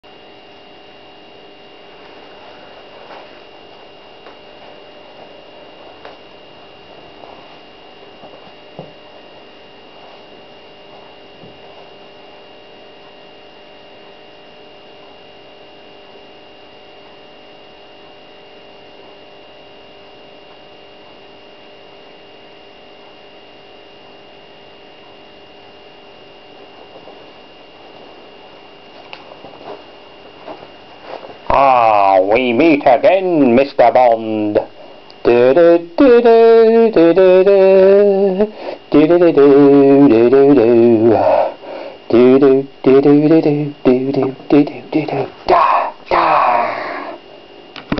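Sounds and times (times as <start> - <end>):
electrical hum: 0.0 - 47.9
thin high whine: 0.0 - 47.9.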